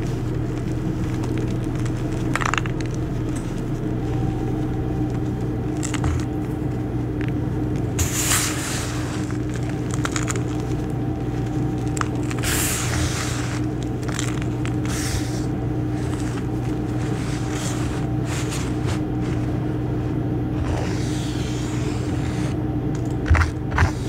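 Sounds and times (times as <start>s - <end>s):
hands crushing chalk powder: 0.0s - 24.0s
low hum: 0.0s - 24.0s.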